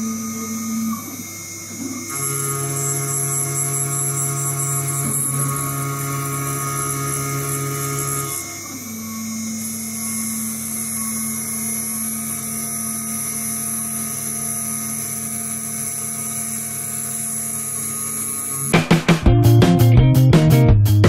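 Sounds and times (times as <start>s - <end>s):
end mill cutting aluminium: 0.0s - 19.0s
mill spindle whining: 0.0s - 19.1s
low machine hum: 0.0s - 19.4s.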